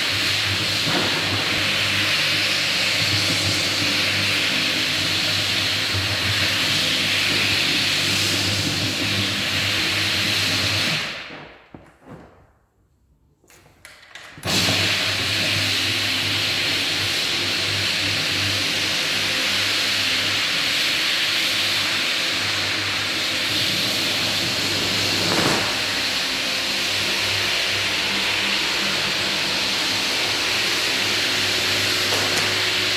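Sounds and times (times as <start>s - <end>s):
floor sander humming: 0.0s - 11.3s, 14.5s - 32.9s.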